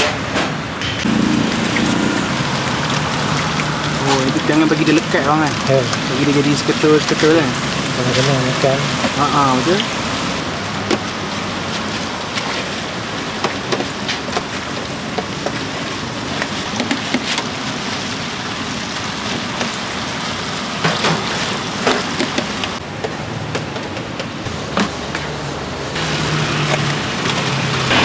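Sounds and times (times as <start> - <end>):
oil sizzling and bubbling: 0.9 - 23.6, 24.5 - 28.0.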